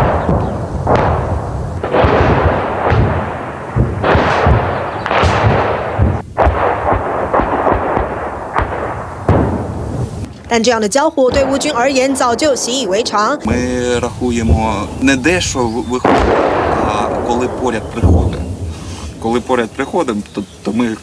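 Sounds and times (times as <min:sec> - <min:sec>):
artillery shells exploding: 0:00.0 - 0:21.0.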